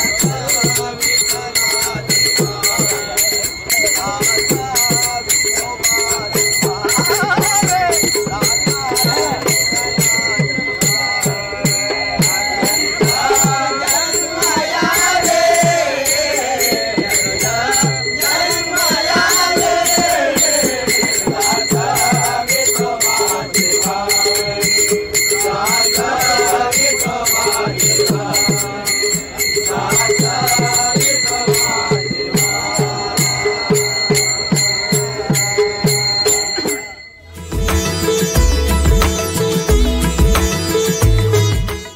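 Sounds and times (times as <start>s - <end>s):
men singing in chorus: 0.0s - 37.1s
brass hand cymbals ringing: 0.0s - 41.9s.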